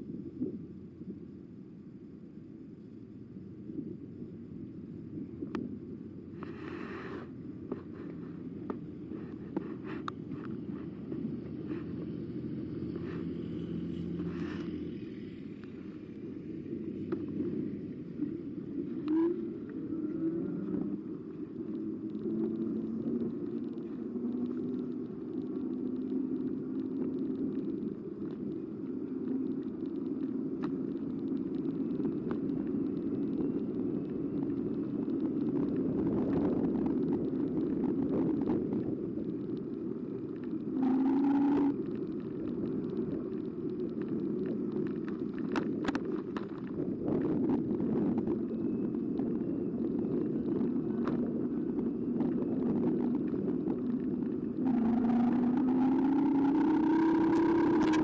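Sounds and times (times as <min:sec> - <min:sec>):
e-bike riding rumble: 0:00.0 - 0:58.0.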